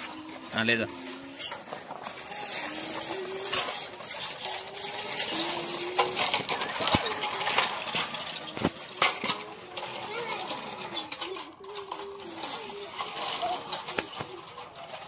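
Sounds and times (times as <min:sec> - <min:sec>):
plastic toy tractors clattering: 0:00.0 - 0:15.0.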